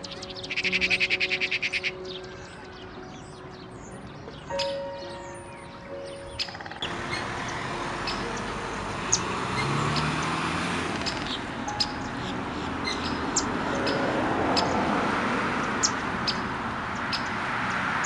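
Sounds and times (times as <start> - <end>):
distant road traffic hum: 0.0 - 18.0
small birds chirping: 0.0 - 18.0.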